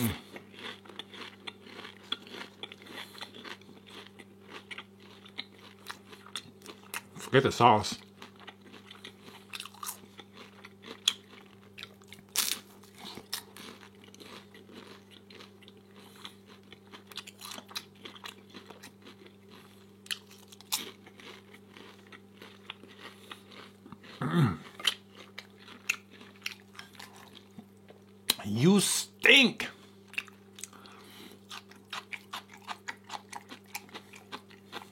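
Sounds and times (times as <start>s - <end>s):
crunching and chewing egg roll: 0.0s - 34.9s
low electrical hum: 0.0s - 34.9s.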